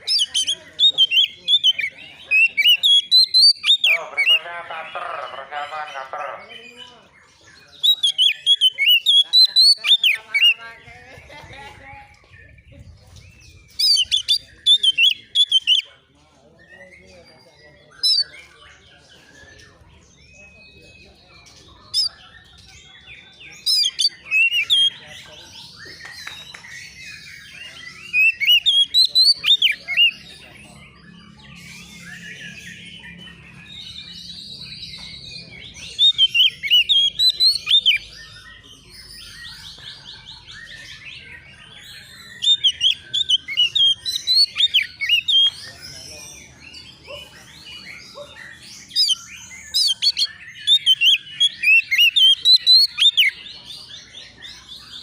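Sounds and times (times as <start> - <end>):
faint bird song with trills: 0.0 - 55.0.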